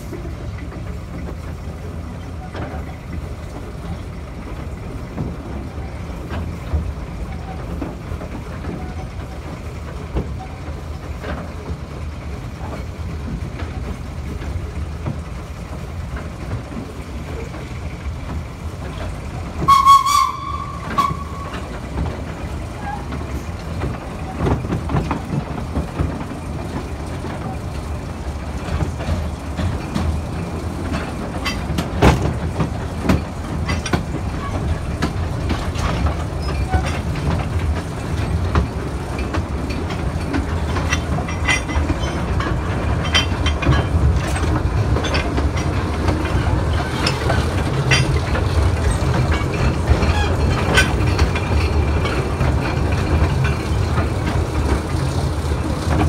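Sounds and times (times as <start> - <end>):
train low rumble: 0.0 - 56.0
wheels clanking over rail: 0.0 - 56.0.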